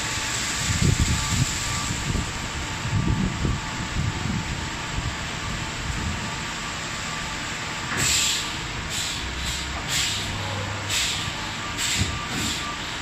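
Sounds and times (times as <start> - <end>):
car wash brushes and water hiss: 0.0 - 13.0.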